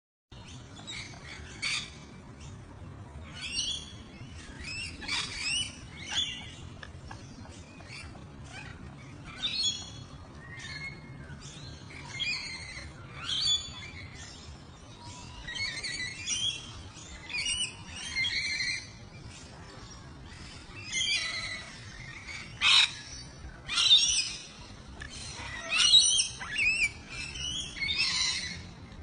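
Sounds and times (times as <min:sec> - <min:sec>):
lovebirds shrill chirping: 0:03.4 - 0:19.3, 0:19.9 - 0:28.8.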